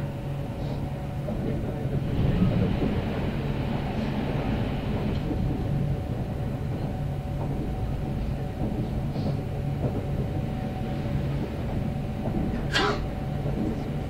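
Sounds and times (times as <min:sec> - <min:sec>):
train motor hum: 0:00.0 - 0:14.0
wheels rumbling on rail: 0:00.0 - 0:14.0.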